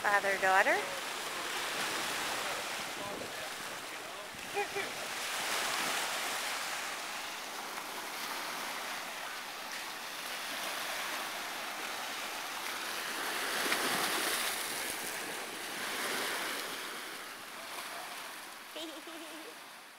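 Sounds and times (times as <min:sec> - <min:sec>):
ocean surf washing up: 0:00.0 - 0:19.9.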